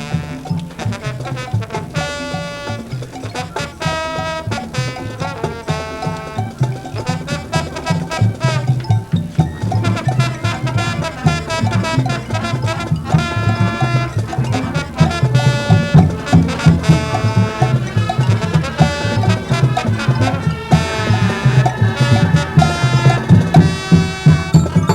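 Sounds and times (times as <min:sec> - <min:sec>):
brass chords: 0:00.0 - 0:24.9
driving drum pattern: 0:00.0 - 0:24.9.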